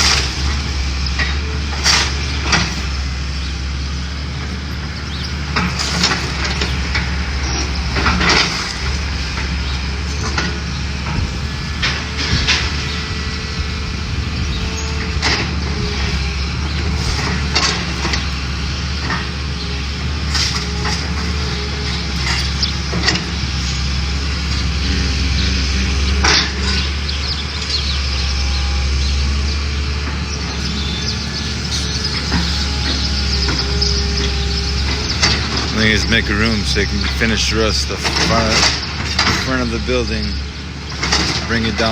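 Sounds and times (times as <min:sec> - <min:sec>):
demolition machinery running: 0:00.0 - 0:41.9.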